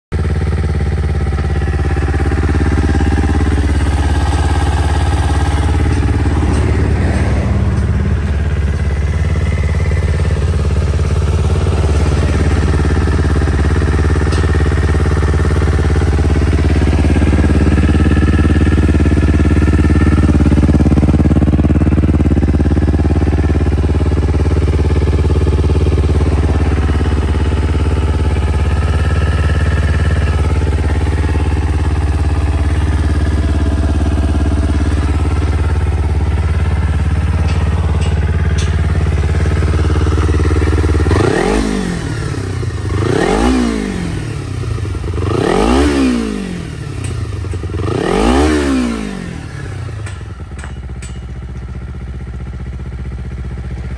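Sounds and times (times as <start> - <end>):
motorcycle engine idling: 0.1 - 53.9.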